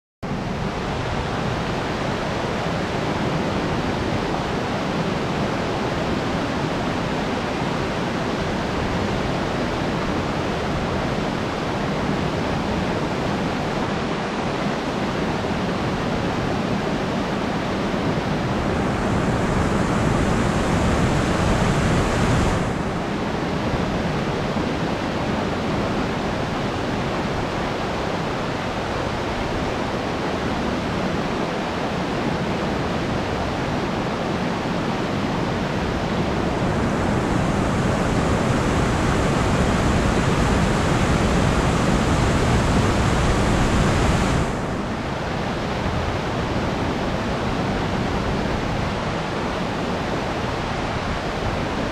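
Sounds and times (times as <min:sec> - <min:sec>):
water rushing over a dam: 0:00.3 - 0:51.9.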